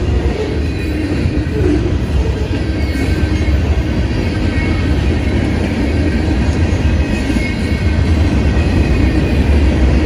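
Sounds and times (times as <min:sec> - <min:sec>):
freight cars rumbling on rails: 0:00.0 - 0:10.0.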